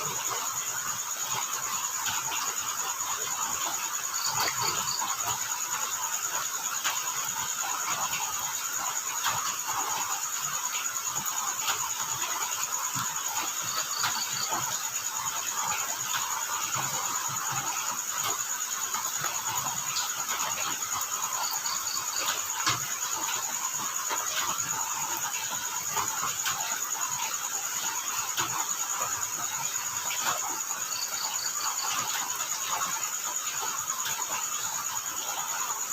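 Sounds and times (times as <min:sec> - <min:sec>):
crickets trilling: 0:00.0 - 0:35.9
rain hiss: 0:00.0 - 0:35.9.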